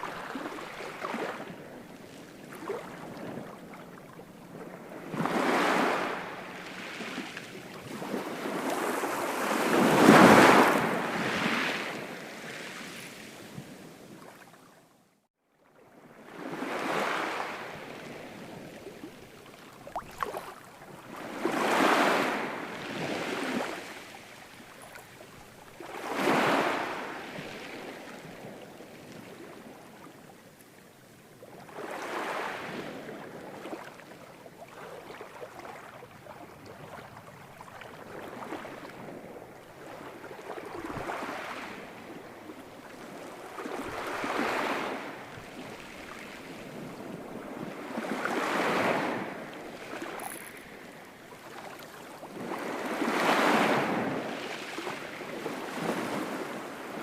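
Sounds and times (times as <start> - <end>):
ocean waves breaking: 0.0 - 14.0, 15.9 - 29.9, 38.0 - 57.0.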